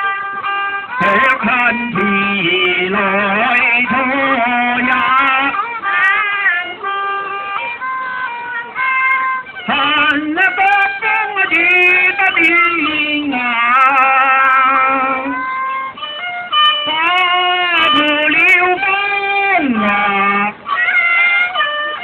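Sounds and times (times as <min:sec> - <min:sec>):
person singing into microphone: 0:00.0 - 0:06.9, 0:09.5 - 0:15.6, 0:16.7 - 0:22.0
instrumental accompaniment: 0:00.0 - 0:22.0.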